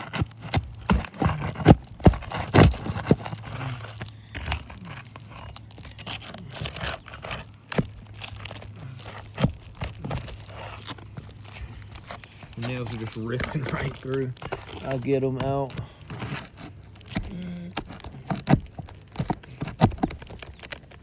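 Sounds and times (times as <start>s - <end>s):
nails tearing through shingle: 0.0s - 21.0s
roof tool scraping shingle: 0.0s - 21.0s.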